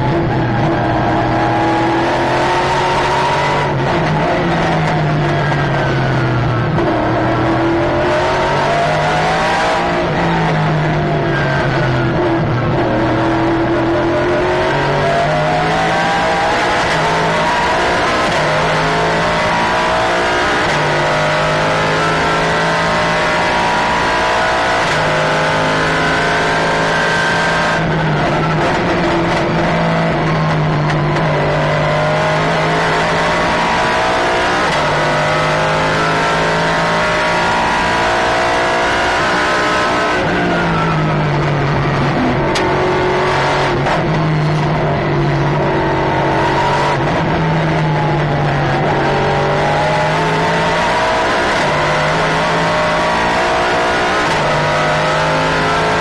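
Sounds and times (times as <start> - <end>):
race car engine with gear changes: 0.0 - 56.0.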